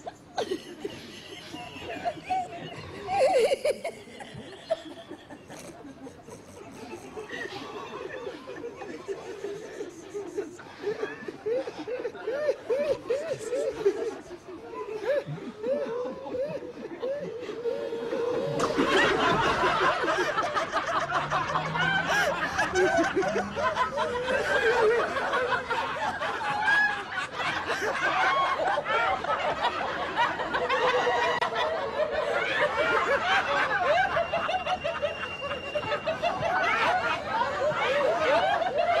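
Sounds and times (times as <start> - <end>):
group of people laughing: 0.0 - 39.0.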